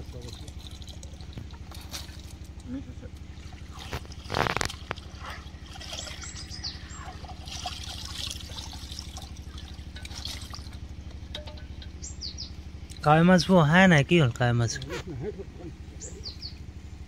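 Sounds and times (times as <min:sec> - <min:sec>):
water trickling and splashing: 0:00.0 - 0:14.9
steady low hum: 0:00.0 - 0:17.0.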